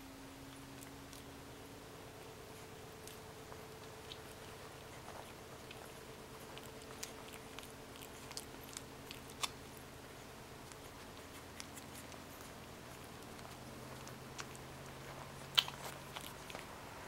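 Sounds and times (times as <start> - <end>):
steady low hum: 0.0 - 17.0
puppies suckling wet clicks: 0.5 - 16.8.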